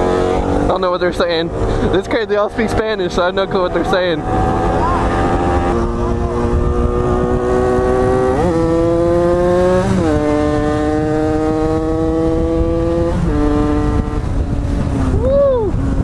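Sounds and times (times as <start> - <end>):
low wind rumble: 0.0 - 16.0
motorcycle engine accelerating: 0.0 - 16.0.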